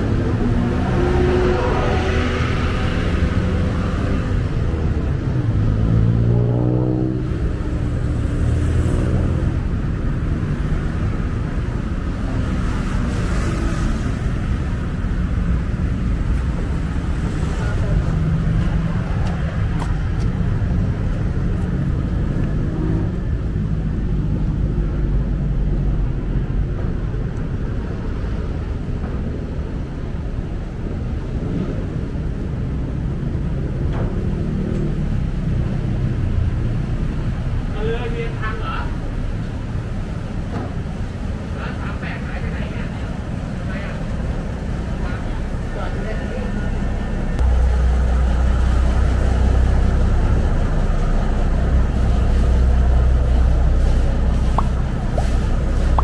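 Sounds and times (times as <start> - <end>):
low rumble of city traffic: 0.0 - 56.0.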